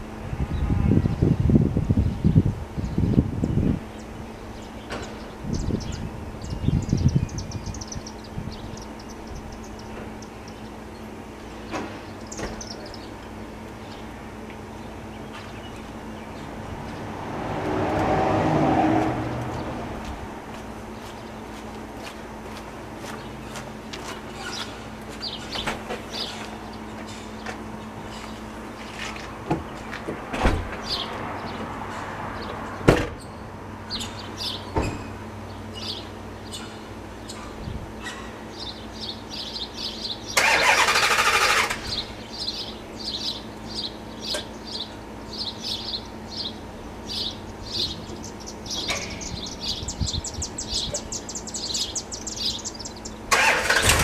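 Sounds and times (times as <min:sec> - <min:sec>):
small birds chirping: 0:01.1 - 0:17.1, 0:22.6 - 0:30.0, 0:32.4 - 0:53.9.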